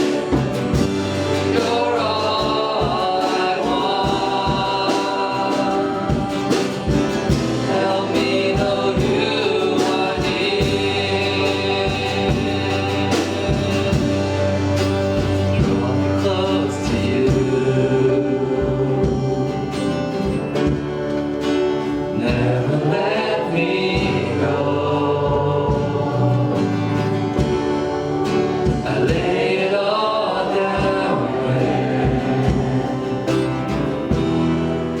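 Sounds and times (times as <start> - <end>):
congregation singing: 0.0 - 35.0
live band playing: 0.0 - 35.0.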